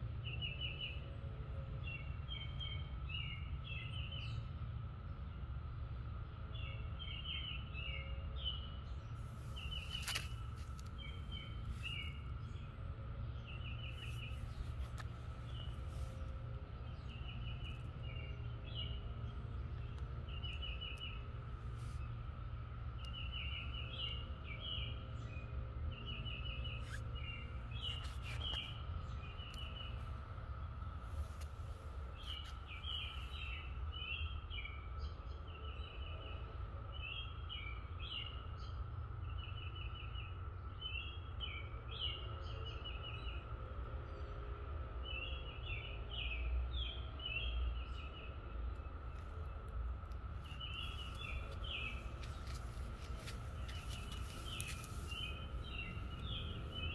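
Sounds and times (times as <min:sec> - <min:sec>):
low wind rumble: 0:00.0 - 0:56.9
distant cicadas droning: 0:00.1 - 0:56.9.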